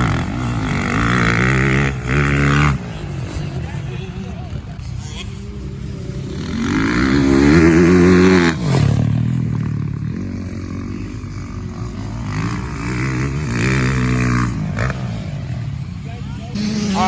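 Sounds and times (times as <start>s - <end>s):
dirt bike engine revving: 0.0s - 3.9s, 4.5s - 17.0s.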